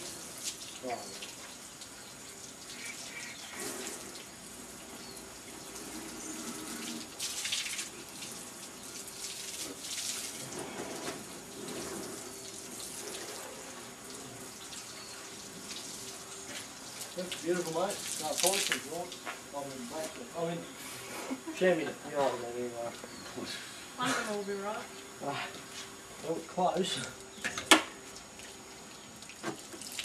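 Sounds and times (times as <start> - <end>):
hose water splashing on car: 0.0 - 20.6, 25.6 - 30.0.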